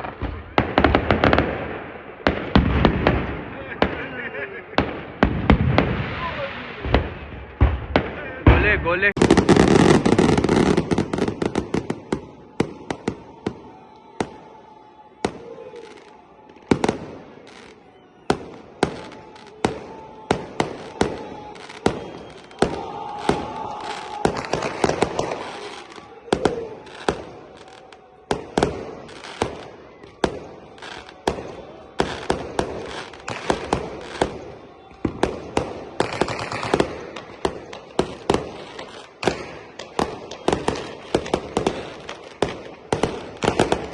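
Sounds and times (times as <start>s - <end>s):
fireworks bangs and cracks: 0.0s - 43.9s.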